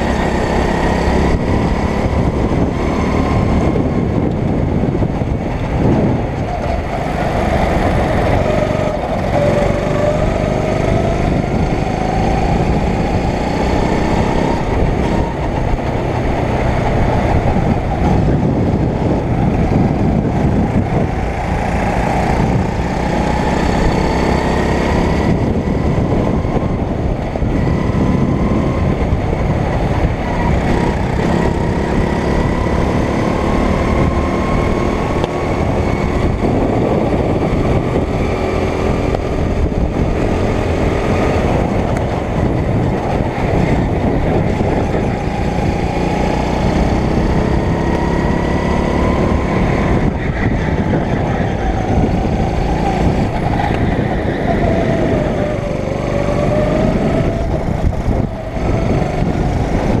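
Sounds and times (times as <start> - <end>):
go-kart engine revving: 0.0 - 60.0.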